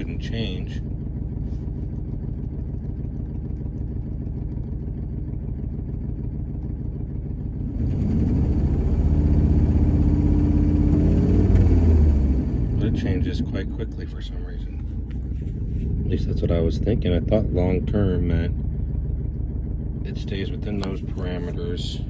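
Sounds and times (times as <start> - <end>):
truck engine idling and revving: 0.0 - 22.0.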